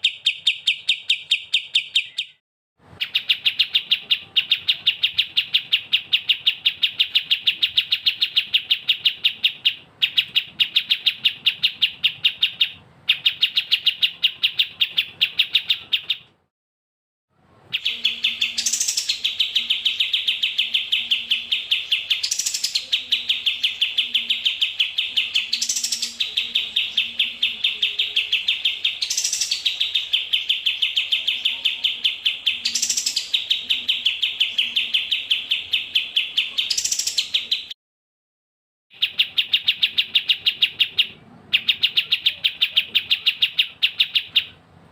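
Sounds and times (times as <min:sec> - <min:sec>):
songbird chirping: 0:00.0 - 0:16.5, 0:17.5 - 0:37.8, 0:38.9 - 0:44.9.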